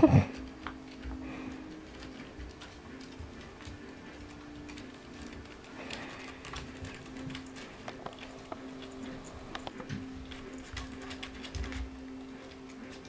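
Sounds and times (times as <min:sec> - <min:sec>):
kitten paws clicking on wood: 0:00.0 - 0:13.0
low steady hum: 0:00.0 - 0:13.0.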